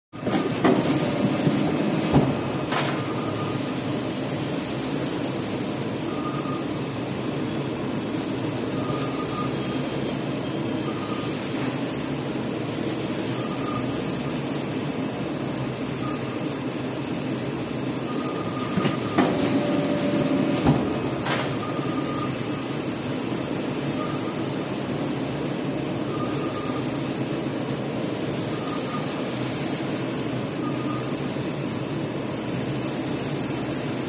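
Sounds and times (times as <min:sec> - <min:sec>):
printer mechanical hum: 0:00.2 - 0:34.0.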